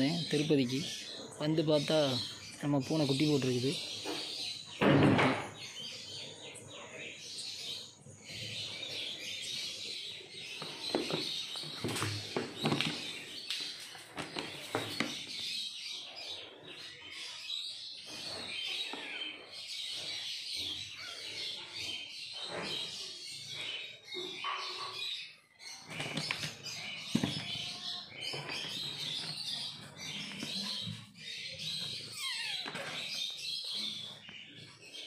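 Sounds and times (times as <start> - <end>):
sparrows chirping: 0.0 - 35.0.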